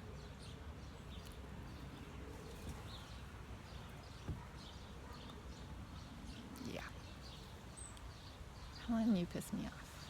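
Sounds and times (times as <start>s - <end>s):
small birds chirping: 1.0s - 10.0s.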